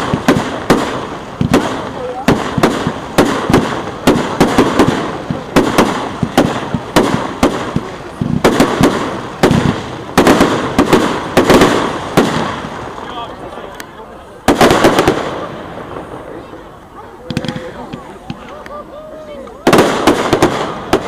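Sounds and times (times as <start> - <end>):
fireworks bangs with echo: 0.0 - 13.6, 14.4 - 18.5, 19.6 - 21.0.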